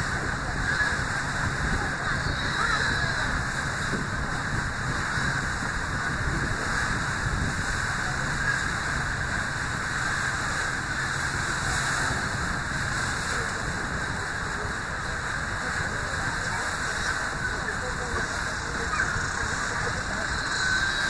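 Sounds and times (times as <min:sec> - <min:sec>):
boat engine drone: 0:00.0 - 0:21.0
water rushing: 0:00.0 - 0:21.0.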